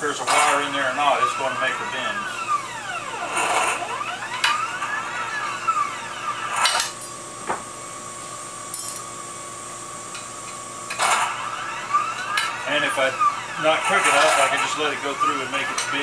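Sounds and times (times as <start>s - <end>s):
machine motor whining: 0.0s - 8.7s, 9.5s - 16.0s.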